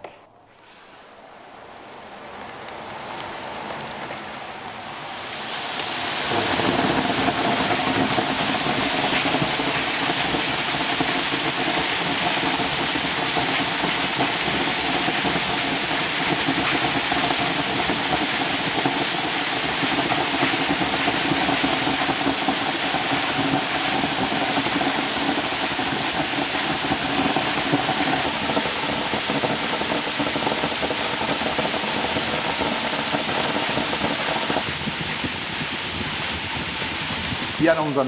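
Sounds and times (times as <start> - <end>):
rush of air and fibre: 0.0 - 38.0
humming blower: 5.7 - 37.6.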